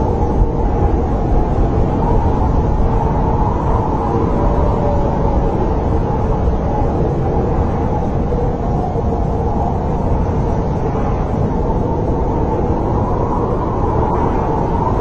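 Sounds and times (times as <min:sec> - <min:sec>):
snowstorm wind blowing: 0:00.0 - 0:15.0
wavering howling wind: 0:00.0 - 0:15.0.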